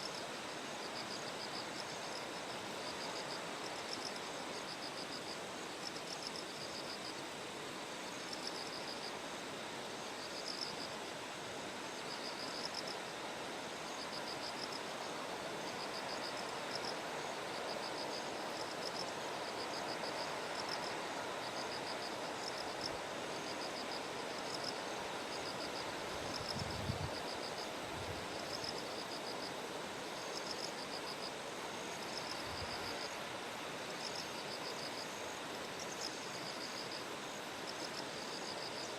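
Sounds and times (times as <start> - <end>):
crickets chirping in pulsed trills: 0.0 - 38.9.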